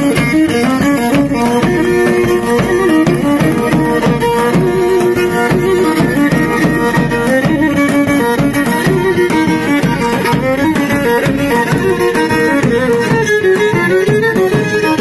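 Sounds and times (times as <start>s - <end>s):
lyra playing melody: 0.0s - 14.4s
large drum beats: 0.0s - 15.0s.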